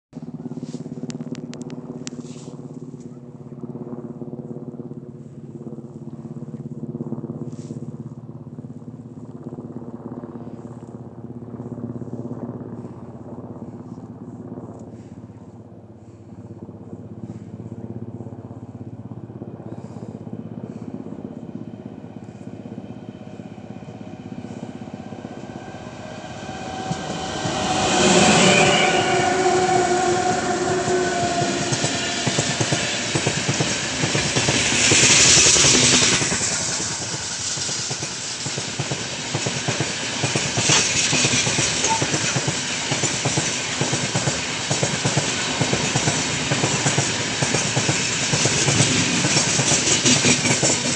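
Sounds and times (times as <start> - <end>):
electric locomotive droning hum: 0.2 - 50.9
wheels rushing on rails: 0.2 - 50.9.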